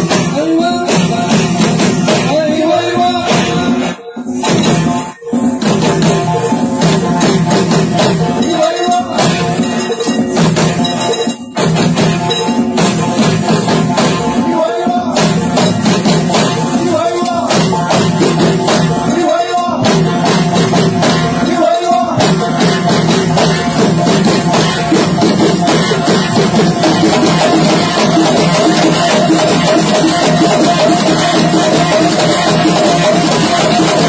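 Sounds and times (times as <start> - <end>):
drums and percussion beat: 0.0 - 34.0.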